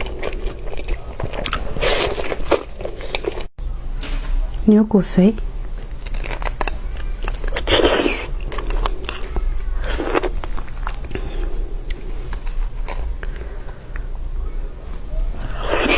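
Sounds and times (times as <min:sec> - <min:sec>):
mouth eating sounds: 0:00.0 - 0:03.5, 0:05.4 - 0:14.3, 0:15.2 - 0:15.9
steady low hum: 0:00.0 - 0:15.9.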